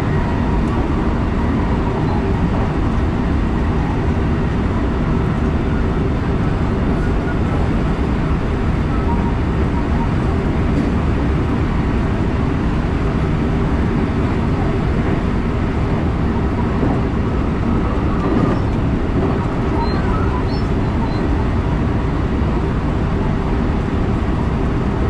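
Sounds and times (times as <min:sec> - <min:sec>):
train wheels on rail: 0:00.0 - 0:25.0.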